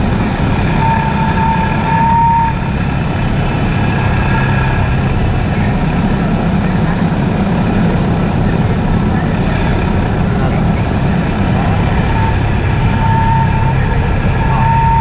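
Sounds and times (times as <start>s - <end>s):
propeller plane engine droning: 0.0s - 15.0s
steady high tone: 0.0s - 15.0s.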